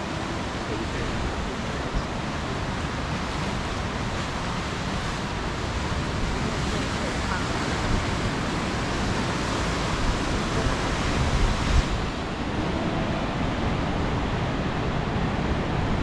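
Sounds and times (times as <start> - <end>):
ocean surf washing: 0.0 - 16.0
wind buffeting the microphone: 0.0 - 16.0.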